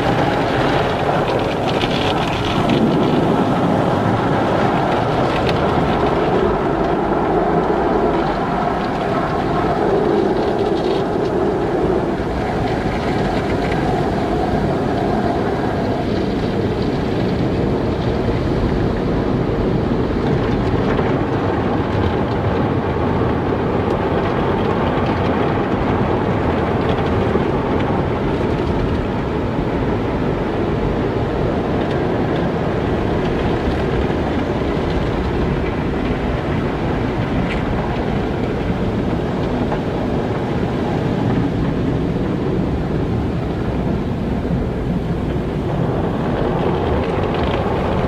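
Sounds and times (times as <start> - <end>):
car wash rushing noise: 0.0 - 48.0.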